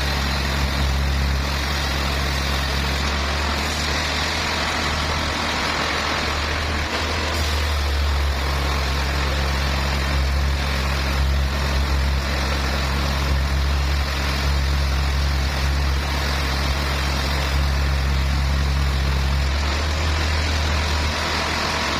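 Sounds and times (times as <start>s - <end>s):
heavy truck engine droning: 0.0s - 21.9s.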